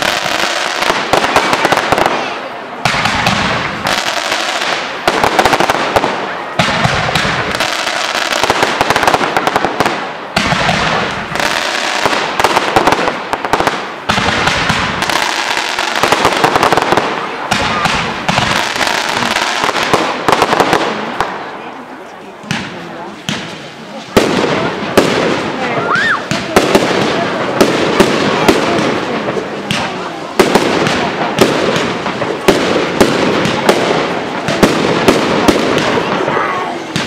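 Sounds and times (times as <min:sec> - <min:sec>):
fireworks crackling: 0:00.0 - 0:37.0
loud fireworks volley: 0:00.0 - 0:37.0.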